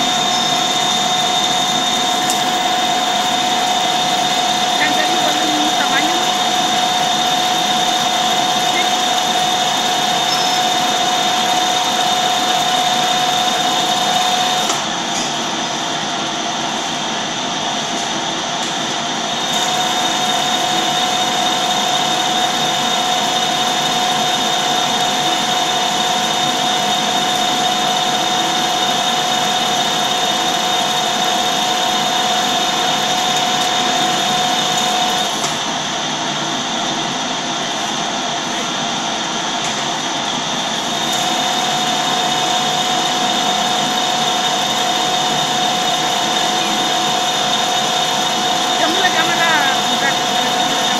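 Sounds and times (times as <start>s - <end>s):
high-pitched whine: 0.0s - 50.9s
metal lathe running: 0.0s - 50.9s.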